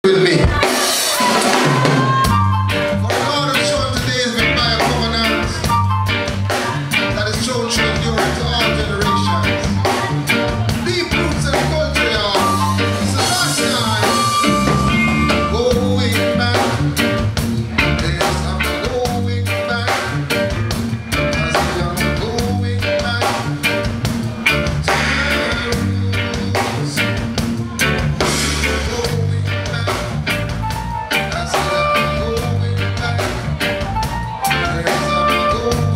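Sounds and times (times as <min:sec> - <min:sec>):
live rock band playing: 0:00.0 - 0:35.9
repeating bass line: 0:01.6 - 0:35.9
man singing into a microphone: 0:02.9 - 0:05.9, 0:06.6 - 0:20.4, 0:21.2 - 0:35.9.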